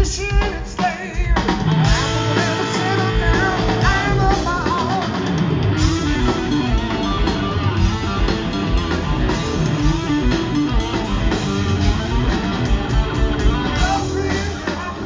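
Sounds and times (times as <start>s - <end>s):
bass guitar: 0.0s - 15.0s
drum kit: 0.0s - 15.0s
electric guitar: 0.0s - 15.0s.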